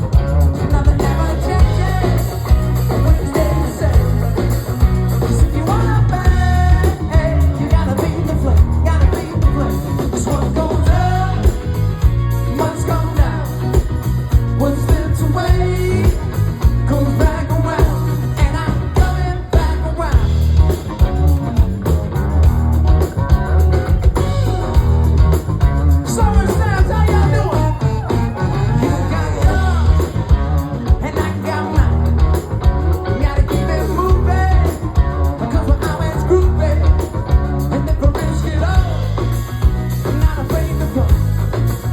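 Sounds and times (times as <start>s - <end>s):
person singing: 0.0s - 20.6s, 26.1s - 41.8s
live rock band playing: 0.0s - 41.9s.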